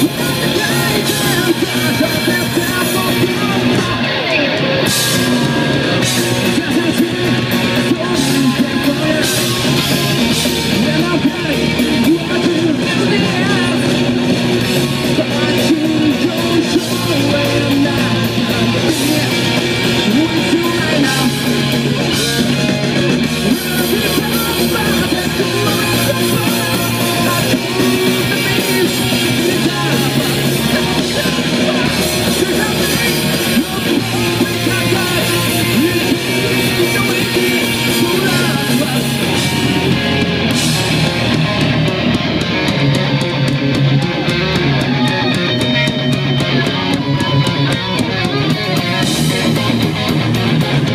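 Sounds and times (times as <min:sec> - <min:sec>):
distorted electric guitars: 0:00.0 - 0:50.9
drum kit: 0:00.0 - 0:50.9.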